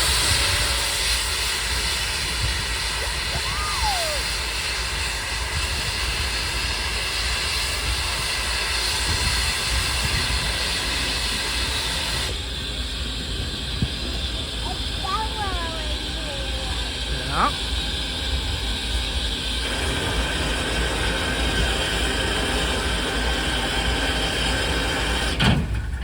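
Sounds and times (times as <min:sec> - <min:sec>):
locomotive venting steam hiss: 0:00.0 - 0:26.0.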